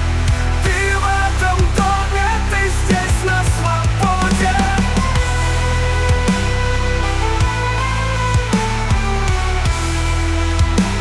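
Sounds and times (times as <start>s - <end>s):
instrumental rock electronic music: 0.0s - 11.0s.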